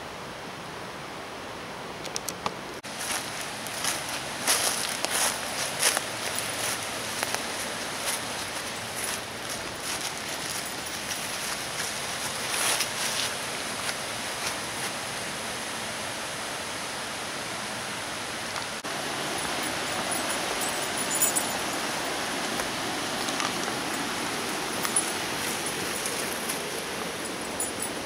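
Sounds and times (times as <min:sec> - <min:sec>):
stream and waterfall rushing: 0:02.6 - 0:28.0.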